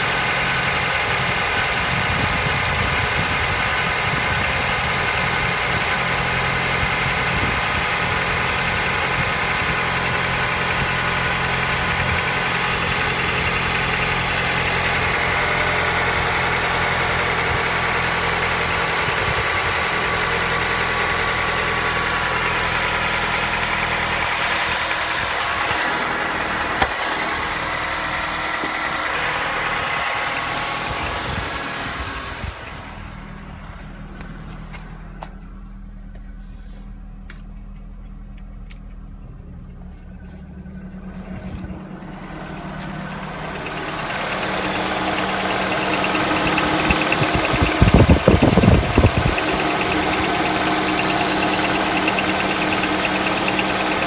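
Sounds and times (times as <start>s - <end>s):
car engine idling with knock: 0.0s - 54.0s.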